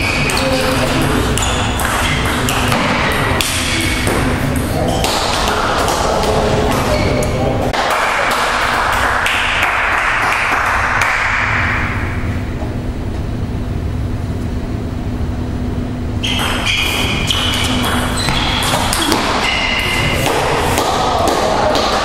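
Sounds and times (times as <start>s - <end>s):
low hum of hall: 0.0s - 22.0s.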